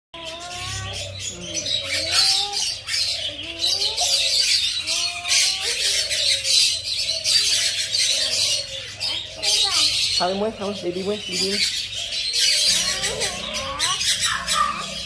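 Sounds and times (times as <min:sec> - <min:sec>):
parrot squawking: 0:00.2 - 0:15.0.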